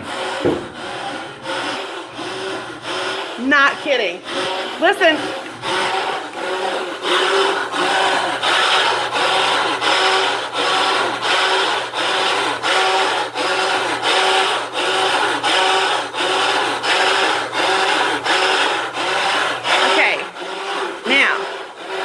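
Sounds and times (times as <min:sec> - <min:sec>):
washing machine rhythmic grinding: 0:00.0 - 0:22.0.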